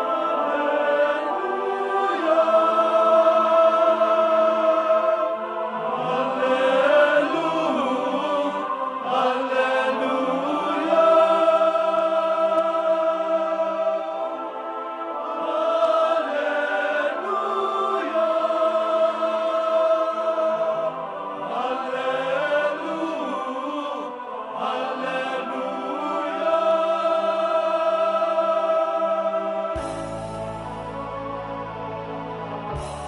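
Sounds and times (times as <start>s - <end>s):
male choir singing in harmony: 0.0s - 33.0s.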